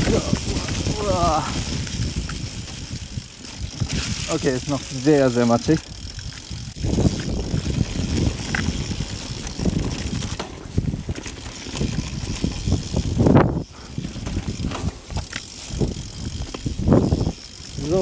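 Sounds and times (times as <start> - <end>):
bike rattling and knocking: 0.0 - 18.0
bike tyres churning over dirt: 0.0 - 18.0.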